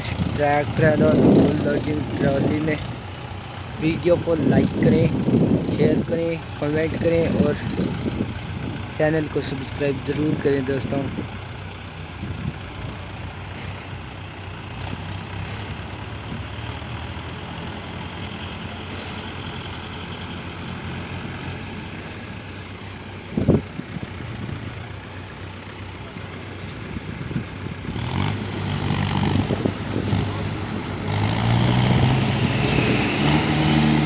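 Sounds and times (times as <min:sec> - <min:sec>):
diesel tractor engine under load: 0:00.0 - 0:34.0.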